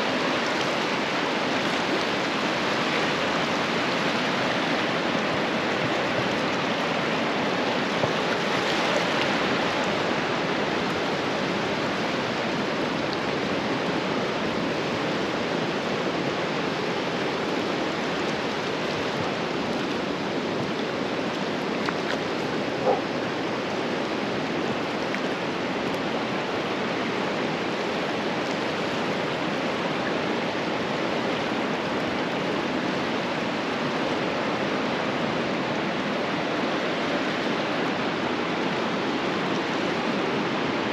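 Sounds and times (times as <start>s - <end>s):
ocean surf washing: 0.0s - 40.9s.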